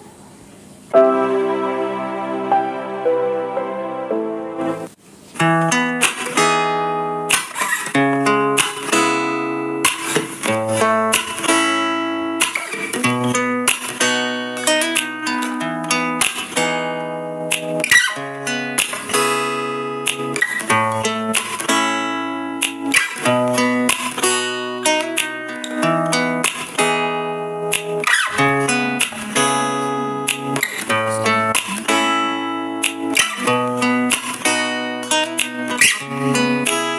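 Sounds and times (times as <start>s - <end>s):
acoustic guitar strumming chords: 0.9s - 36.9s.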